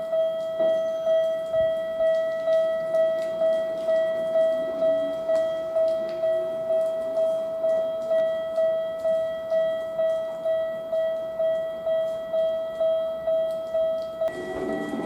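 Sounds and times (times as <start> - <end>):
level crossing bell ringing: 0.0 - 15.0.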